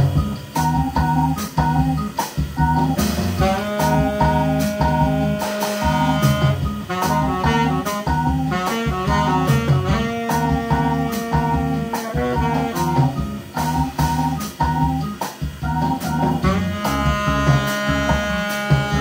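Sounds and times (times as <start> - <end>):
live jazz band playing: 0.0 - 19.0.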